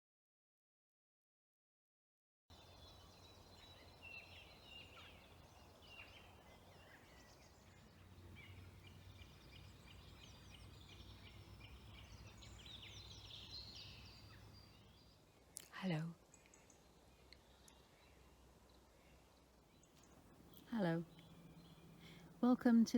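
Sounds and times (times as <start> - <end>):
faint songbird chorus: 2.5 - 22.9.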